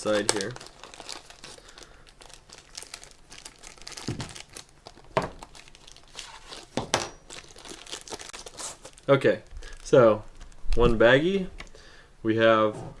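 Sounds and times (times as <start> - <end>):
plastic baggie crinkling: 0.0 - 11.8.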